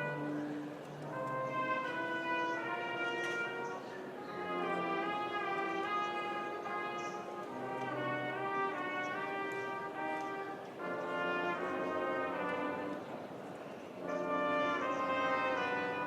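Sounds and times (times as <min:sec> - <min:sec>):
brass band playing a march: 0:00.0 - 0:16.0.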